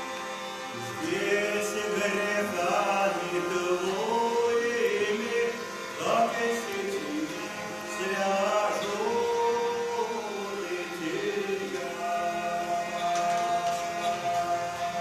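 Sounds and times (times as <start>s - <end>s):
voices singing unaccompanied: 0.7s - 15.0s.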